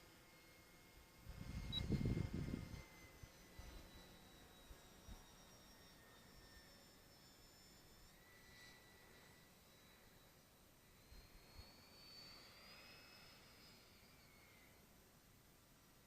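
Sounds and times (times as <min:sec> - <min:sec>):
high whine of electric jet fan: 0:00.0 - 0:16.0.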